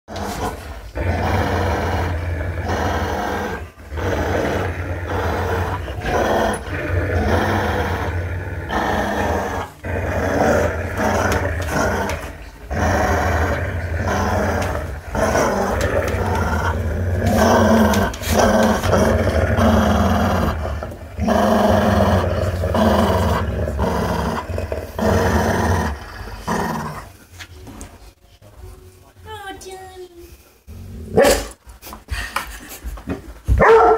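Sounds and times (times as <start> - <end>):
dog play-growling: 0.1 - 28.0.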